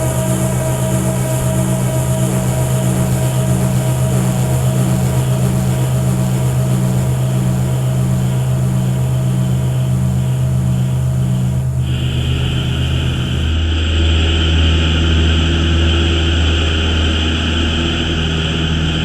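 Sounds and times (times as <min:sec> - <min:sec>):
low hum: 0:00.0 - 0:19.0
throbbing bass tones: 0:00.0 - 0:19.0.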